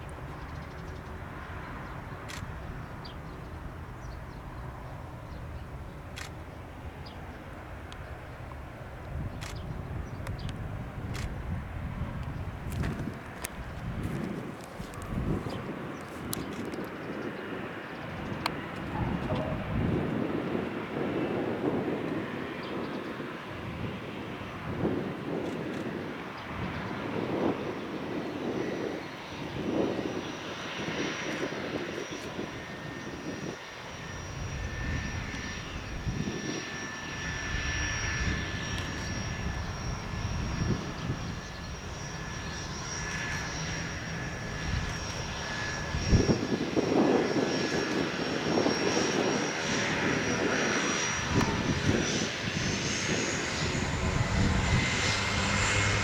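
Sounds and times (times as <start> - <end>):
propeller and airflow rumble: 0.0 - 56.0
turboprop engine whine: 0.0 - 56.0.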